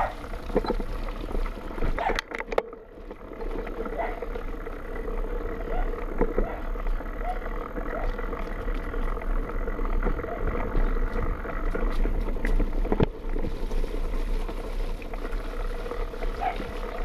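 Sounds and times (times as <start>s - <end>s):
bike rattling with small knocks: 0.0s - 17.0s
bike tyres rumbling over rocks: 0.0s - 17.0s.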